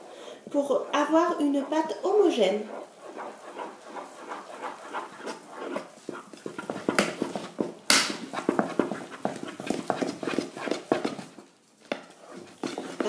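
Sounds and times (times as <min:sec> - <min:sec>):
wooden spoon beating dough in pan: 0:00.0 - 0:13.0.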